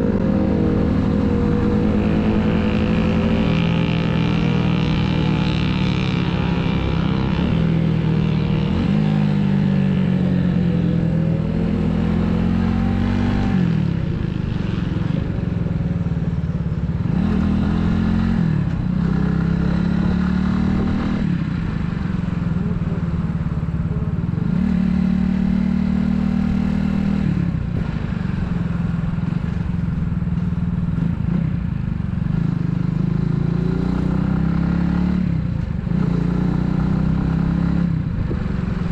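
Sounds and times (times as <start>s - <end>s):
motorcycle engine revving: 0.0s - 38.9s
road and wind noise: 0.0s - 38.9s.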